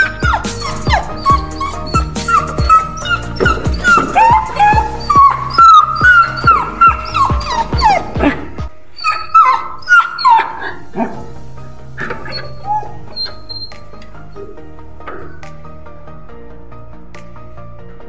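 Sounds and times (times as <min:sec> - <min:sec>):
dog whining: 0:00.0 - 0:11.3, 0:12.0 - 0:15.5
background music with steady beat: 0:00.0 - 0:18.0.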